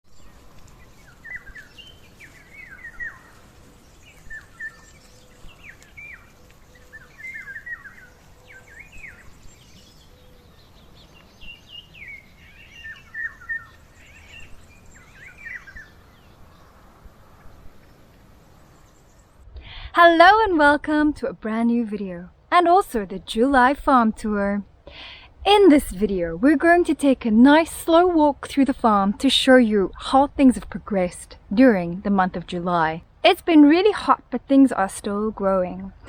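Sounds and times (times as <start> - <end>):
birds chirping: 0.1 - 36.0
faint steady background noise: 0.1 - 36.0.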